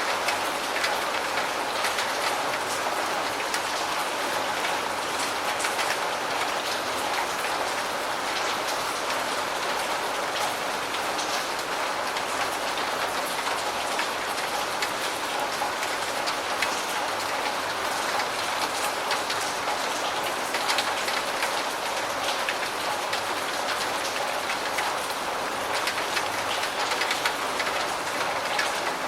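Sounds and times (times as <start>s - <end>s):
steady rain falling: 0.0s - 29.0s
rain drop ticks: 0.1s - 7.7s, 10.4s - 29.0s.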